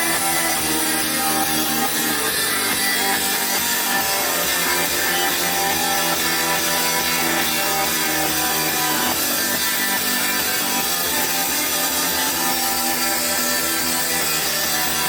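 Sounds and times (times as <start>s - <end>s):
electric guitar: 0.0s - 15.0s
rock band playing: 0.0s - 15.0s.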